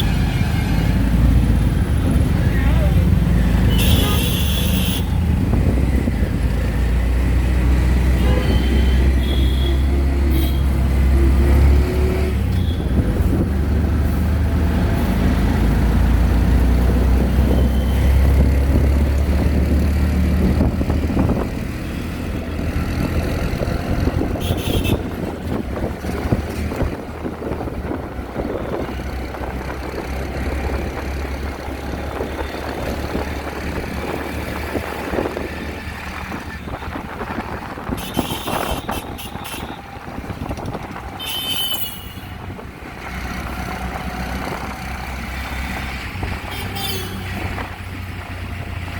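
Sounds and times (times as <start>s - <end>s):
auto-rickshaw engine running: 0.0s - 48.9s.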